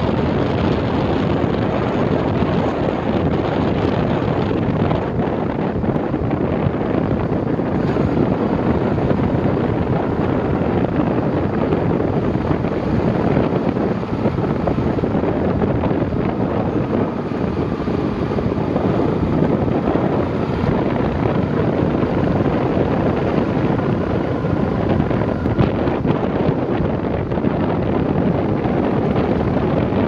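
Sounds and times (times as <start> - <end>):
vehicle running noise: 0.0 - 30.0
wind buffeting microphone: 0.0 - 30.0.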